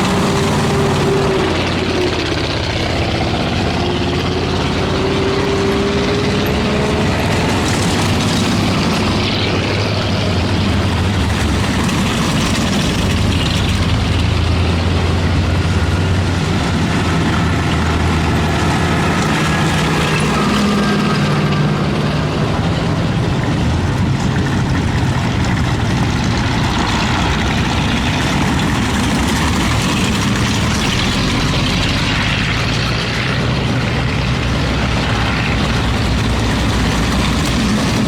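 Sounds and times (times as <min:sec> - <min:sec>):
engines running: 0:00.0 - 0:38.0
steel tracks clattering on gravel: 0:00.0 - 0:38.0.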